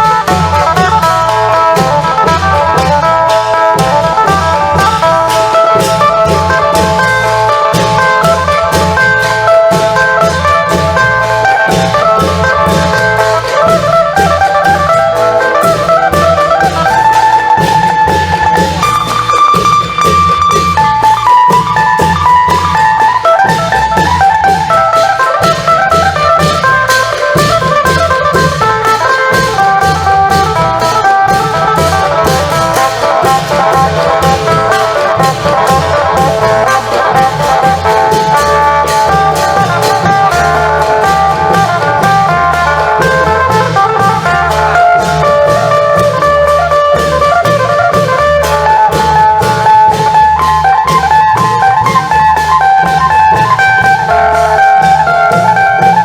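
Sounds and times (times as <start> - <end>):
drums and cymbals beat: 0.0 - 56.0
lute melody: 0.0 - 56.0.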